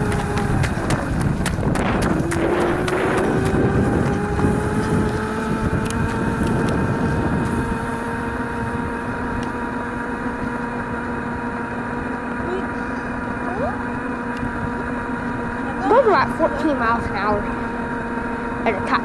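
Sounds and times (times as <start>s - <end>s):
electric motor whining: 0.0s - 19.0s
low rumble: 0.0s - 19.0s.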